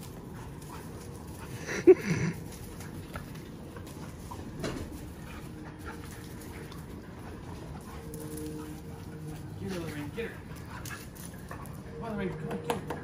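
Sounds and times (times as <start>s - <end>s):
puppies playing: 0.0s - 13.0s.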